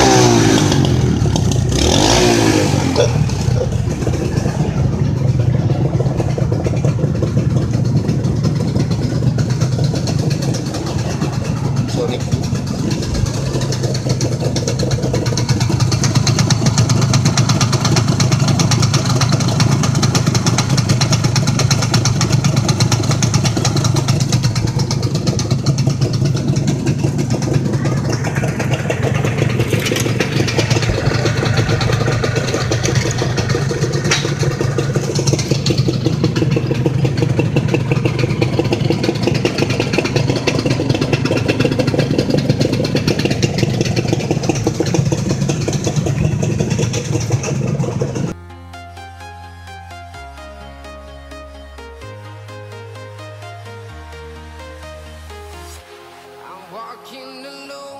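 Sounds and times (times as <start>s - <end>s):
two-stroke engine idling: 0.0s - 48.4s.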